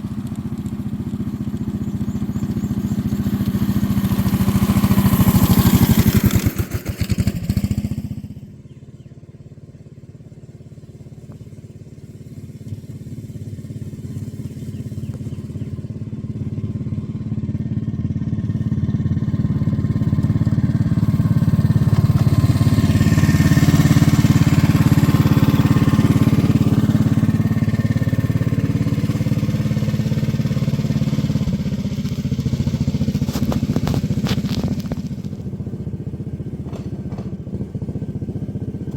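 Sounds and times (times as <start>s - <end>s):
small locomotive engine pulsing: 0.0s - 38.9s.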